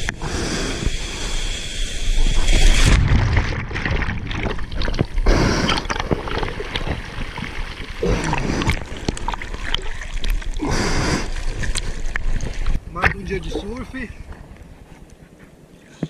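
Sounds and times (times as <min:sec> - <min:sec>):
sea water splashing and gurgling: 0:00.0 - 0:14.6.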